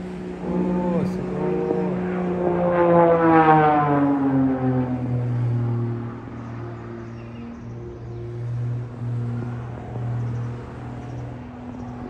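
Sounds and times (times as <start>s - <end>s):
plane engine flying past: 0.0s - 12.0s.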